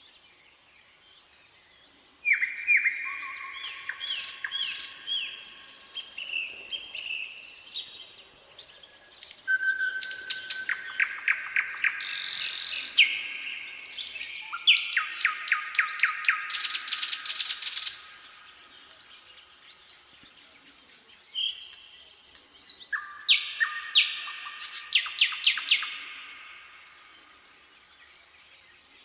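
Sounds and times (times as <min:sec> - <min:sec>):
nightingale singing: 0:00.0 - 0:29.0.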